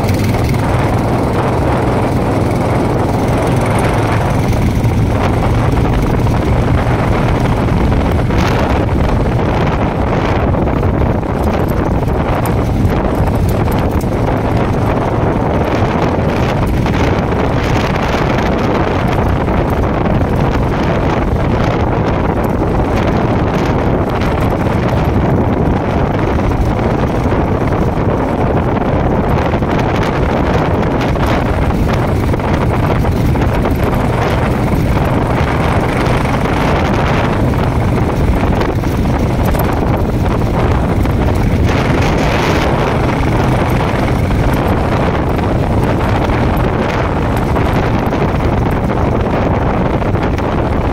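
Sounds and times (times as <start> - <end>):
motorcycle engine running: 0.0 - 50.9
wind noise on microphone: 0.0 - 50.9.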